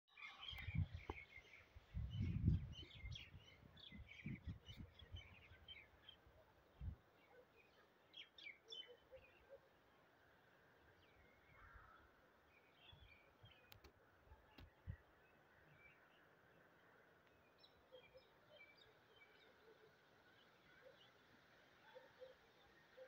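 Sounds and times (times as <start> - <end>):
faint outdoor background noise: 0.1 - 23.0.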